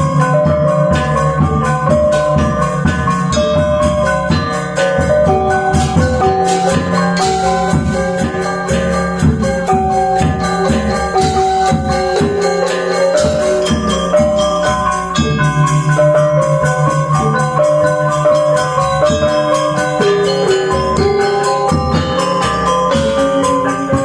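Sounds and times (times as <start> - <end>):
metallophones ringing: 0.0 - 24.0.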